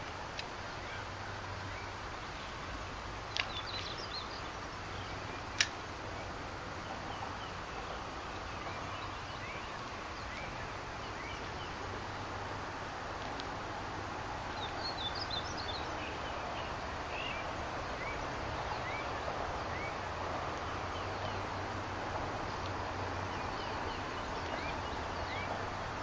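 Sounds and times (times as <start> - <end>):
steady background hiss: 0.0 - 26.0.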